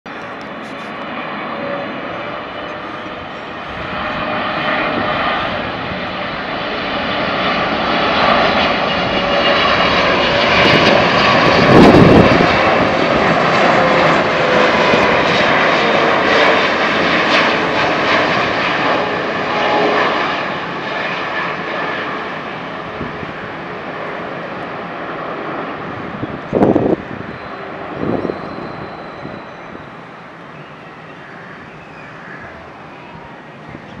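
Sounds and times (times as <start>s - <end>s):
jet airliner passing overhead: 0.1s - 34.0s.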